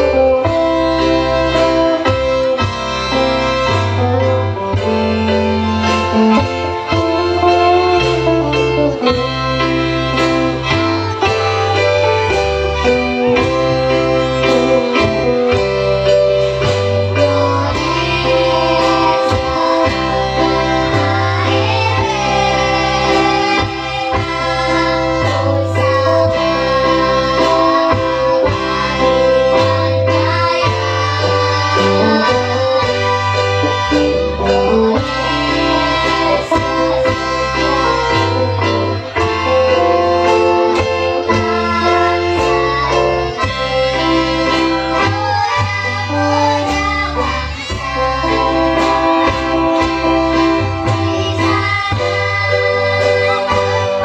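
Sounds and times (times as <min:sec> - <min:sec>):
children singing: 0:00.0 - 0:54.0
instrumental backing music: 0:00.0 - 0:54.0.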